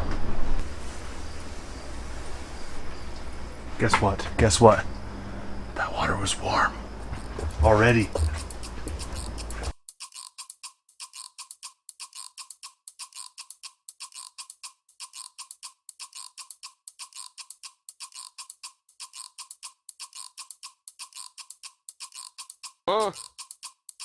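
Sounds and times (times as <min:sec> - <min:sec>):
fast ringing ticks: 0:01.0 - 0:10.3, 0:11.0 - 0:23.8.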